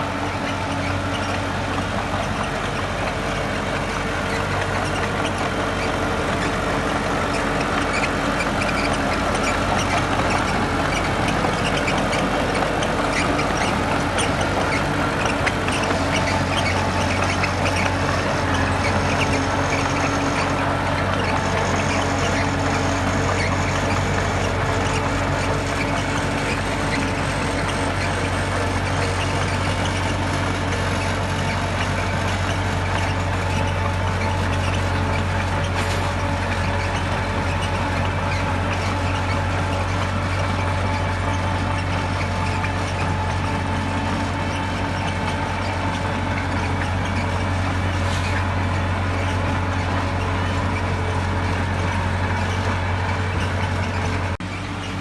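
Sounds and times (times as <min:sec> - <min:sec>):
diesel machinery engine hum: 0:00.0 - 0:55.0
machinery squeaks and clanks: 0:00.0 - 0:55.0.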